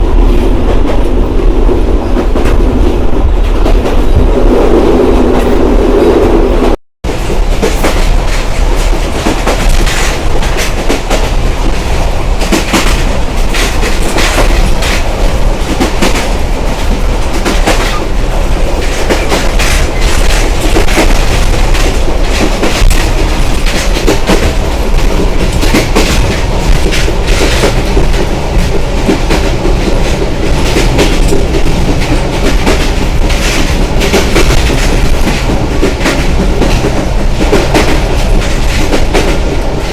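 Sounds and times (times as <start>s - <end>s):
train track noise rushing: 0.0s - 39.9s.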